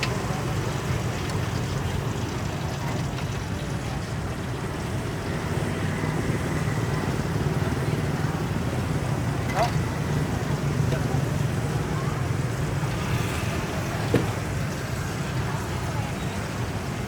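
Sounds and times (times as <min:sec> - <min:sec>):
busy street market noise: 0:00.0 - 0:17.0.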